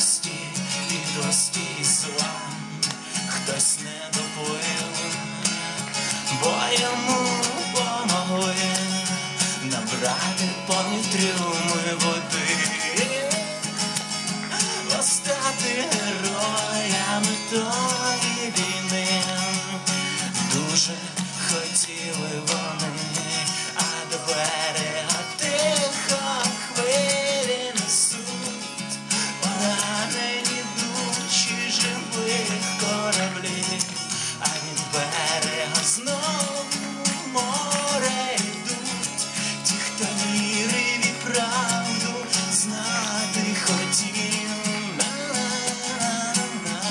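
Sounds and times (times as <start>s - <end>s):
acoustic guitar strumming: 0.0s - 46.9s
man singing: 0.0s - 46.9s.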